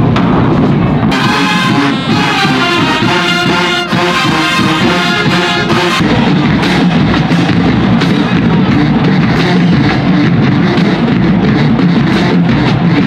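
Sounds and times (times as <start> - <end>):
marching band drums: 0.0 - 13.0
brass horns playing chords: 1.0 - 13.0.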